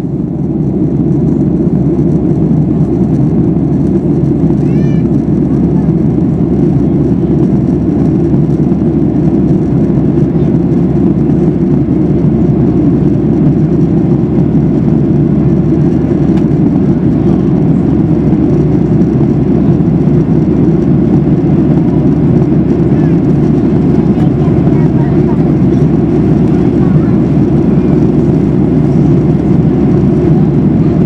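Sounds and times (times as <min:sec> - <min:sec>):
airplane cabin roar: 0:00.0 - 0:31.0.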